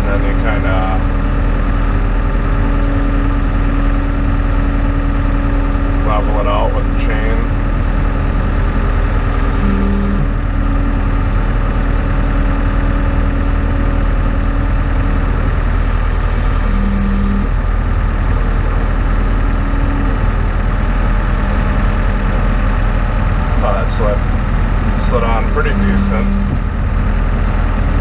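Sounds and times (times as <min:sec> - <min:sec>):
skid steer engine running: 0:00.0 - 0:28.0.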